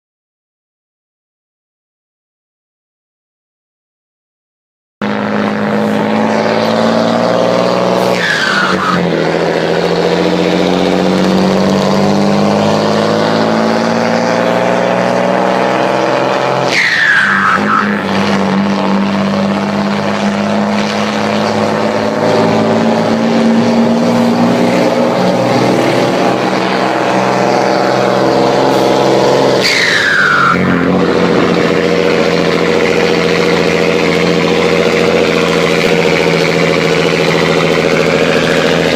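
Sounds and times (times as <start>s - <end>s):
truck diesel engine accelerating: 5.0s - 38.9s.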